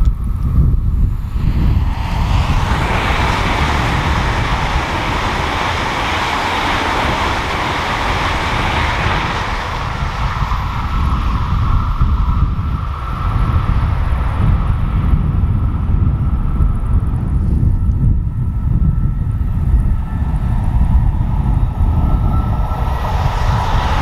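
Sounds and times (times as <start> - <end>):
high-speed train passing: 0.0 - 24.0.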